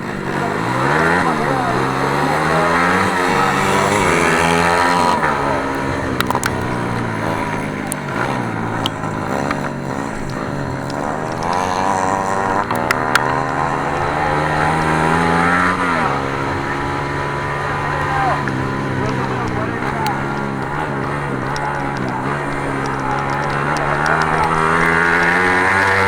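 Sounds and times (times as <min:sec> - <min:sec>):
racing motorcycle engines: 0:00.0 - 0:26.0
sharp clicks: 0:00.0 - 0:26.0.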